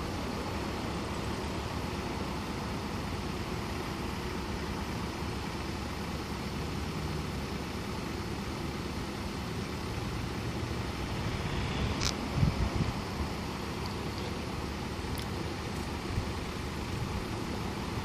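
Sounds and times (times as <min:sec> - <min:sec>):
constant hiss: 0:00.0 - 0:18.0
low engine hum: 0:00.0 - 0:18.0.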